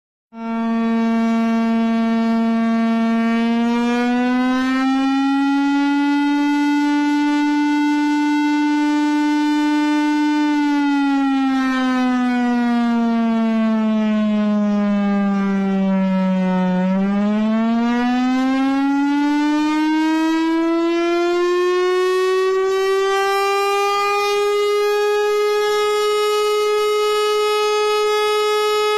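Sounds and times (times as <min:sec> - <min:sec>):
air-raid siren wailing: 0:00.3 - 0:28.9.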